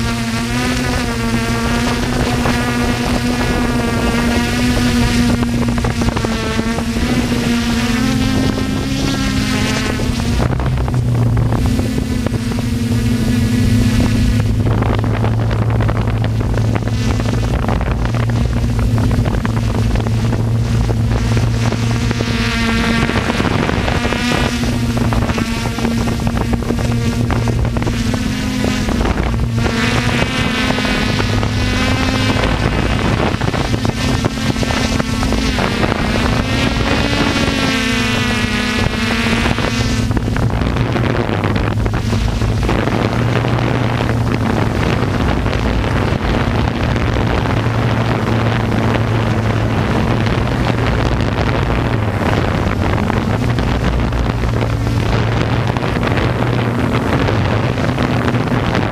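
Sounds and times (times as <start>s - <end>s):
model aircraft motors running: 0.0s - 58.9s
wind buffeting microphone: 0.0s - 58.9s.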